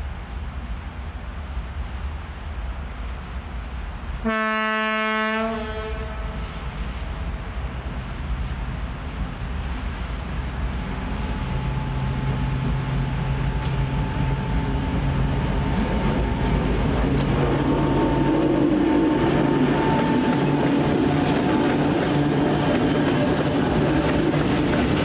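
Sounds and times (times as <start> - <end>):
train engine drone: 0.0 - 25.0.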